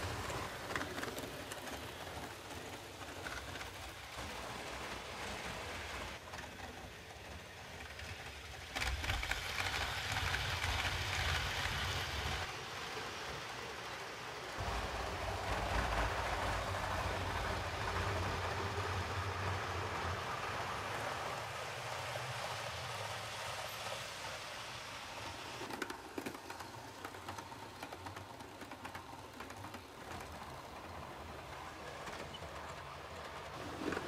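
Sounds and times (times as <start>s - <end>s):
model train wheel rumble: 0.0s - 34.0s.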